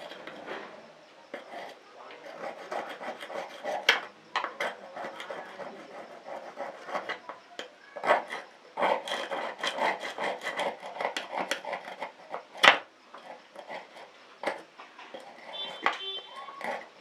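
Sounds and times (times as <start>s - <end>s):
hand tools scraping metal: 0.0s - 17.0s.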